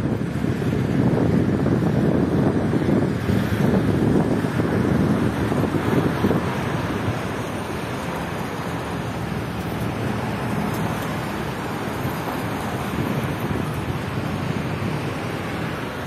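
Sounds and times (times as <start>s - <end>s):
city traffic: 0.0s - 16.0s
wind on microphone: 0.0s - 16.0s.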